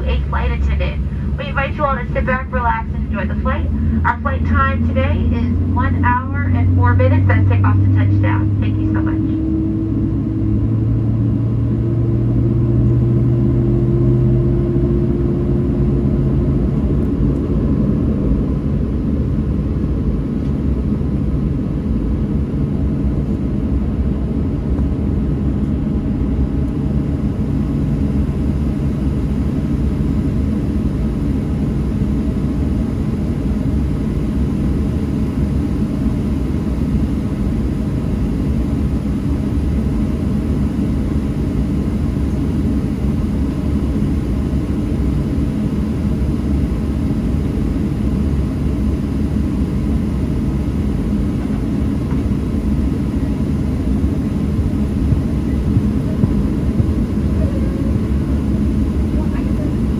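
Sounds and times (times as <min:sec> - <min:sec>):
airplane cabin rumble: 0:00.0 - 0:59.9
low hum: 0:00.0 - 0:59.9.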